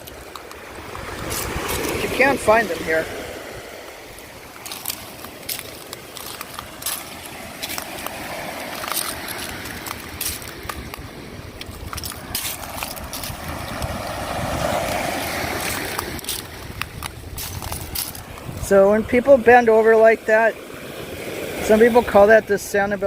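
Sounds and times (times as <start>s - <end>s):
small waves washing on shore: 0.0s - 23.0s.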